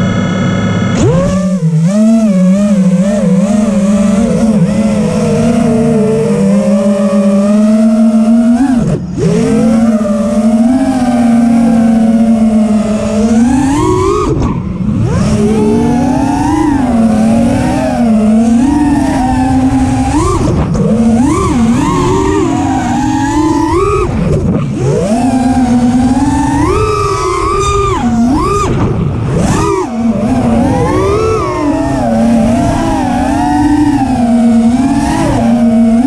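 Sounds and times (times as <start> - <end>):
electric motor whining: 0.0 - 36.0.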